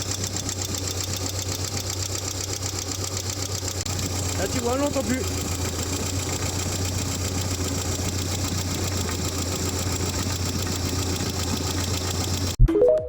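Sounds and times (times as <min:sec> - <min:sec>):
car engine idling: 0:00.0 - 0:12.6
engine lifter clacking: 0:00.0 - 0:12.6.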